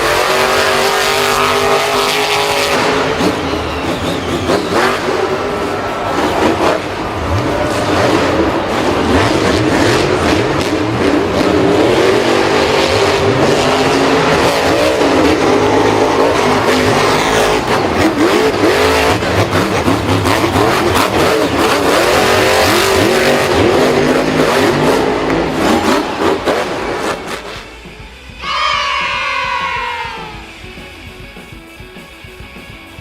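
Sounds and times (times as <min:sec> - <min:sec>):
racing engines revving: 0:00.0 - 0:33.0.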